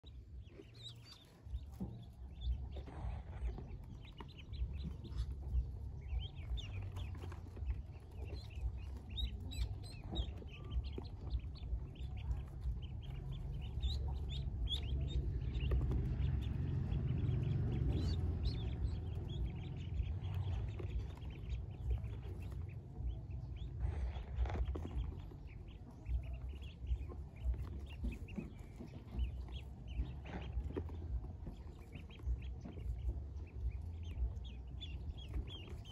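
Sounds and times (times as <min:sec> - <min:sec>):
ducklings peeping: 0:00.0 - 0:35.9
low rumble: 0:00.0 - 0:35.9.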